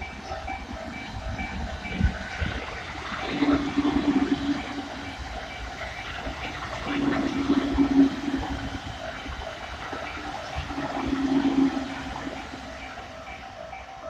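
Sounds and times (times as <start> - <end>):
level crossing warning bell: 0.0 - 14.0
train running through: 0.0 - 14.0.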